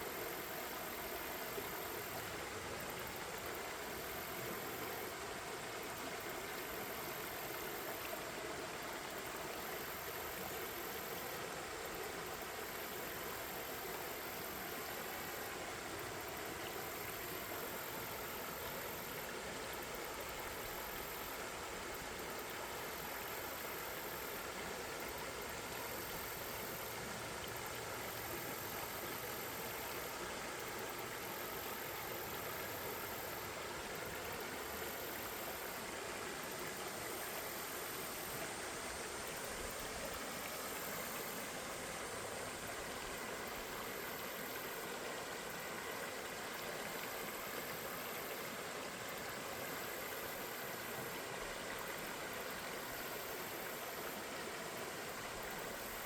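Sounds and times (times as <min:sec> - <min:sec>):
faint high hiss: 0:00.0 - 0:56.0
river rushing: 0:00.0 - 0:56.0.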